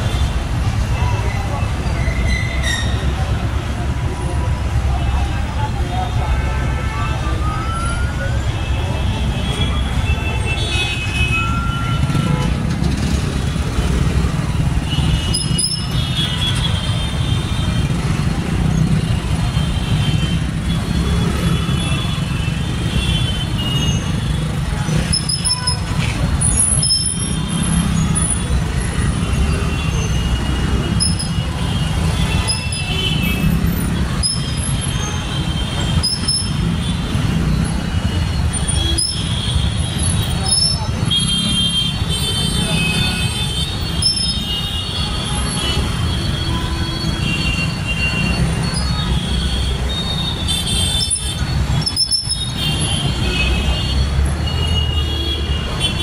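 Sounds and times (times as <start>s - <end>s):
idling traffic rumble: 0.0s - 56.0s
vehicle horns tooting: 5.0s - 13.1s, 14.6s - 56.0s.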